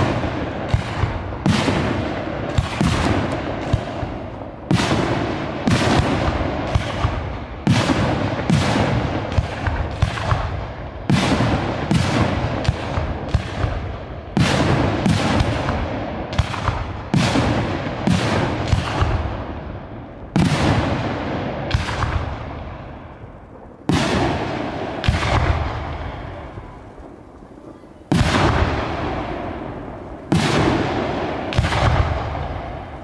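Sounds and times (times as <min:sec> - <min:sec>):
fireworks bangs with rolling echo: 0:00.0 - 0:33.0.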